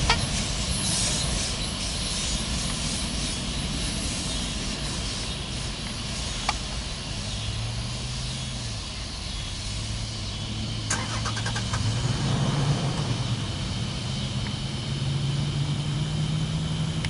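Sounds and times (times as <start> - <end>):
engine humming: 0.0 - 17.0
outdoor background noise: 0.0 - 17.0.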